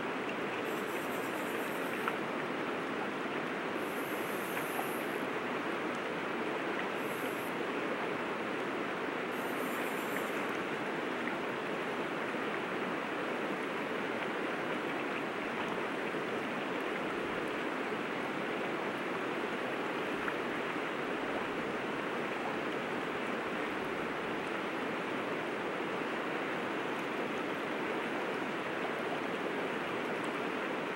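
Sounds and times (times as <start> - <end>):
river water flowing: 0.0 - 30.9.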